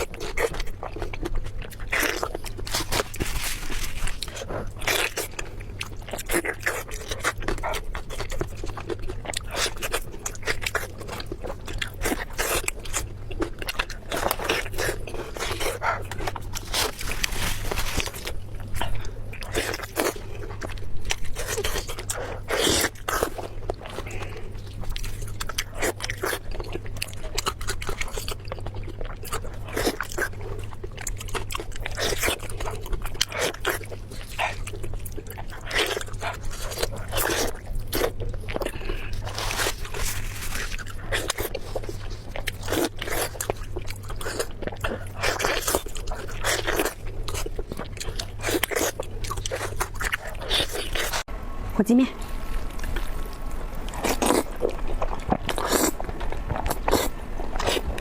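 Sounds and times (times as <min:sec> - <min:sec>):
crunching and chewing food: 0:00.0 - 0:51.4, 0:52.1 - 0:58.0
faint low hum: 0:00.0 - 0:58.0.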